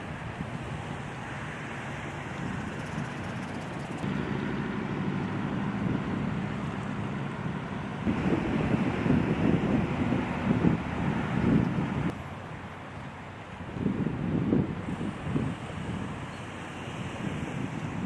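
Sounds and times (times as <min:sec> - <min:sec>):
wind on microphone: 0:00.0 - 0:04.1, 0:05.2 - 0:12.2, 0:13.6 - 0:18.0
vehicle engine hum: 0:00.0 - 0:18.0.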